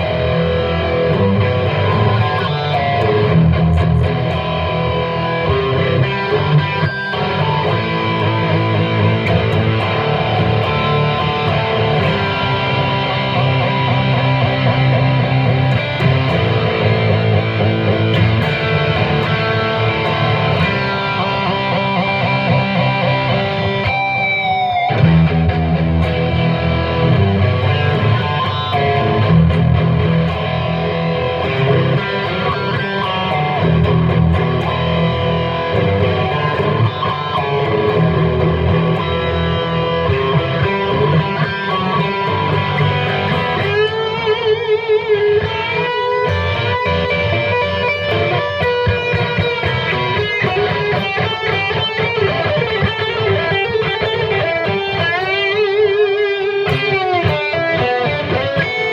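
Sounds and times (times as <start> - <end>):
electric guitar through an amp: 0.0 - 58.9.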